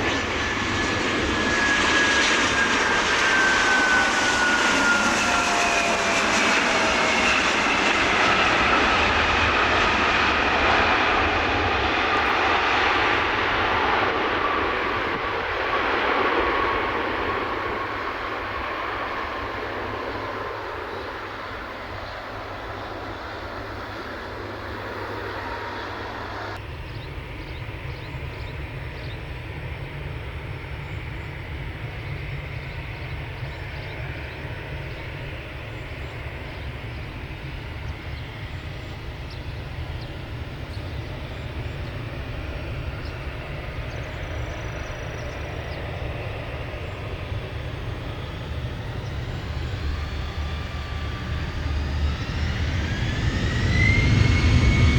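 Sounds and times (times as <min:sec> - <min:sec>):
jet airliner engine rumble: 0:00.0 - 0:54.9.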